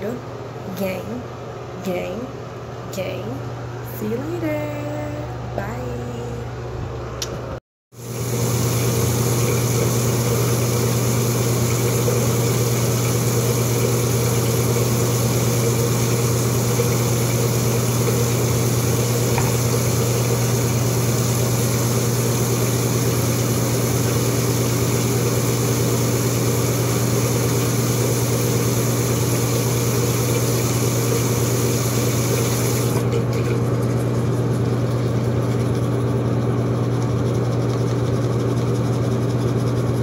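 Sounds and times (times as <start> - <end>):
exhaust fan humming: 0.0 - 40.0.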